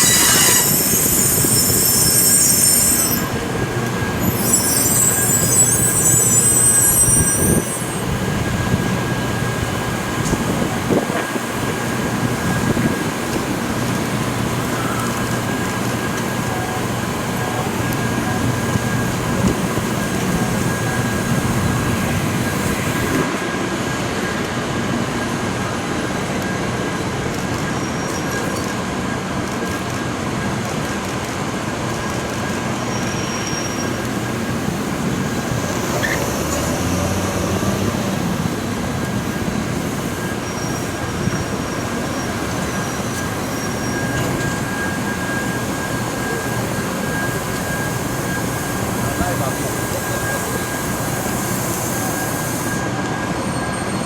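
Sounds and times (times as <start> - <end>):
faint high wheel squeals: 0.0 - 9.6, 14.1 - 23.3, 27.0 - 30.6, 32.3 - 54.0
train wheels on rail: 0.0 - 54.0.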